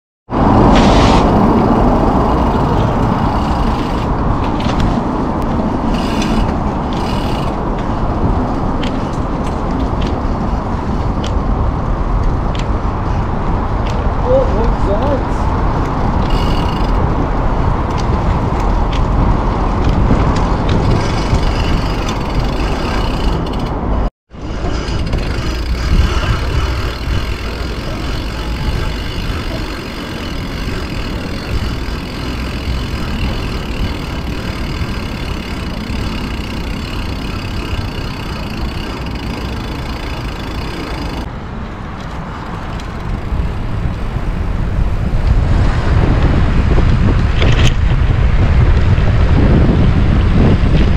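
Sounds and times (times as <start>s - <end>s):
bicycle tyre noise: 0.3s - 41.3s, 41.9s - 50.9s
wind rush: 0.3s - 50.9s.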